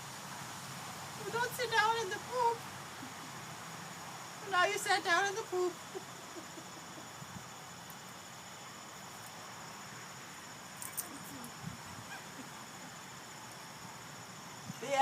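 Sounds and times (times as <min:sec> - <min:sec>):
high-pitched insect drone: 0:02.3 - 0:15.0.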